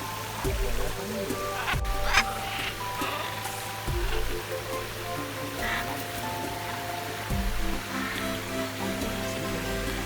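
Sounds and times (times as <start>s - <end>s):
background music with bass line: 0.0s - 10.0s
faint watery rustle: 0.0s - 10.0s.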